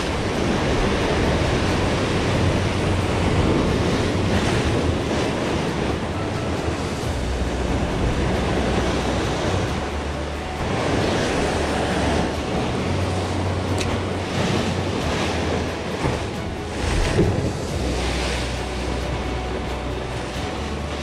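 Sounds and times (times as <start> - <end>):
waves breaking over rocks: 0.0 - 21.0
wind buffeting microphone: 0.0 - 21.0.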